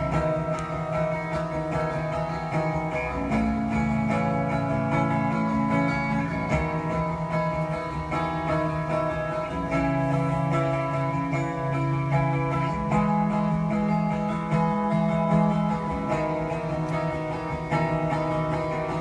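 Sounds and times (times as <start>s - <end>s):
plucked guitar music: 0.0s - 19.0s.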